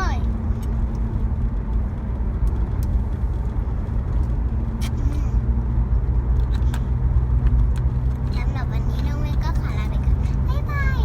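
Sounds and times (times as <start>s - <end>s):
vehicle motor rumbling: 0.0s - 11.0s.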